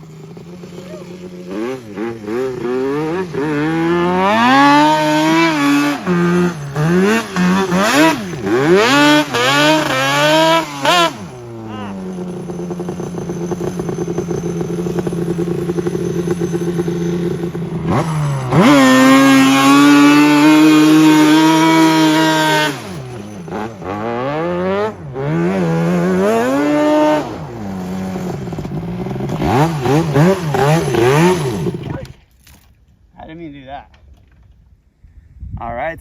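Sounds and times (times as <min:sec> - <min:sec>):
two-stroke engine revving: 0:00.0 - 0:32.2.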